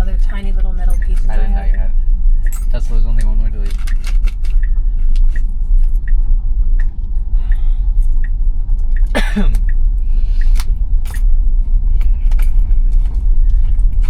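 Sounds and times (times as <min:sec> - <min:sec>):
tyre and road rumble: 0:00.0 - 0:14.0.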